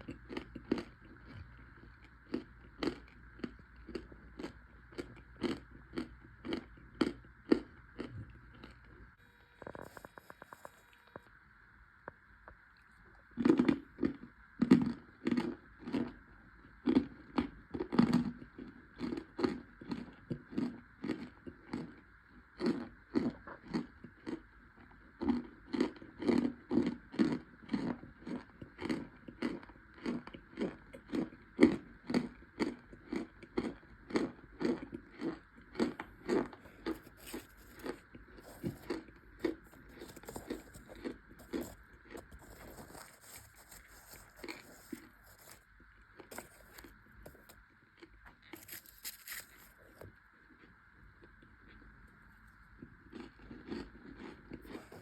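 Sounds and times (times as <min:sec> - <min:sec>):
crunchy chewing: 0:00.0 - 0:11.4, 0:12.1 - 0:55.0.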